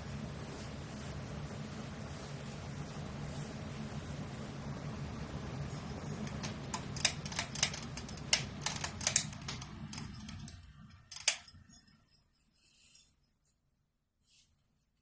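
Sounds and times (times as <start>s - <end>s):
ceiling fan motor and air: 0.0s - 13.5s.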